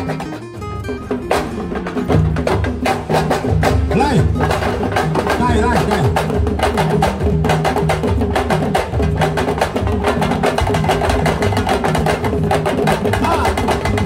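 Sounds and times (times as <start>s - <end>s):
music with fast percussion beat: 0.0s - 14.0s.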